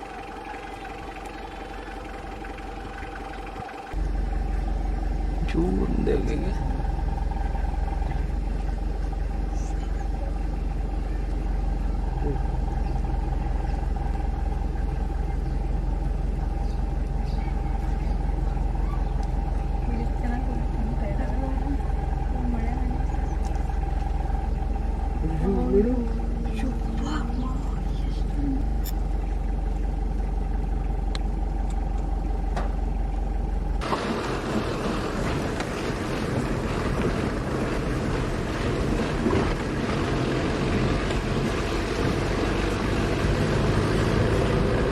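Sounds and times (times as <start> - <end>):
vehicle engine low rumble: 0.0 - 44.9.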